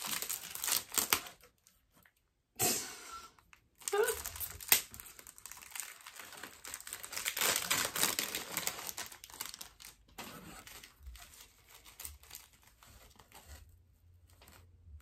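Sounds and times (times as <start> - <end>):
paper packaging crinkling: 0.0 - 1.8, 3.4 - 15.0.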